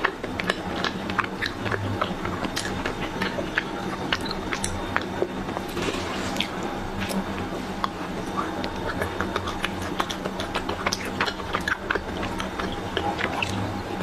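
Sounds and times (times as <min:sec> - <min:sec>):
chewing crispy ice cream: 0:00.0 - 0:14.0.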